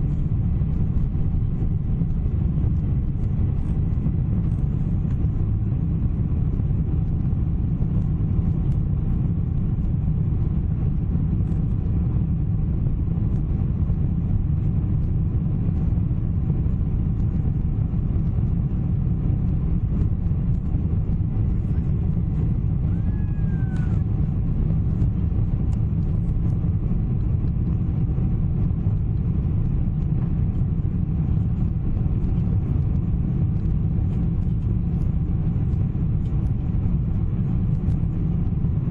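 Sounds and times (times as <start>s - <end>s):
airplane engines rumbling: 0.0s - 38.9s
faint steady hum: 0.0s - 38.9s
rushing airflow: 0.0s - 38.9s.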